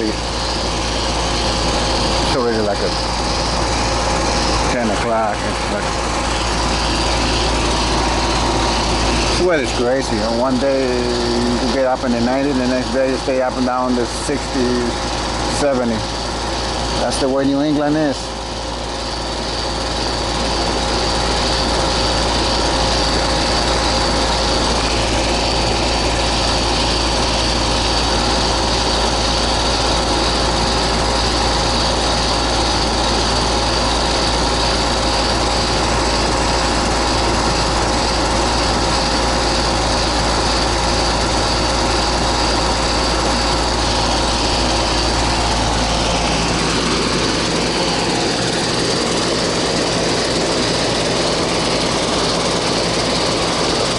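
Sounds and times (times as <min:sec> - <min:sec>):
air conditioner hum: 0:00.0 - 0:53.9
constant high whine: 0:00.0 - 0:53.9.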